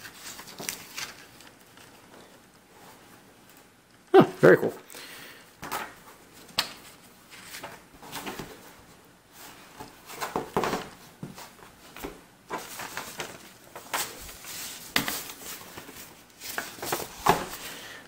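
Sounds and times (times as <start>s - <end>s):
papers rustling and sliding: 0.0s - 3.6s, 5.6s - 18.0s.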